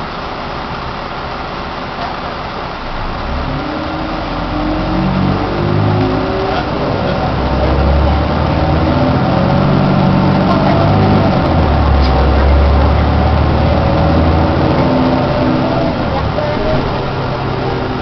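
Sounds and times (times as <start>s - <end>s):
bus engine running: 0.0s - 18.0s.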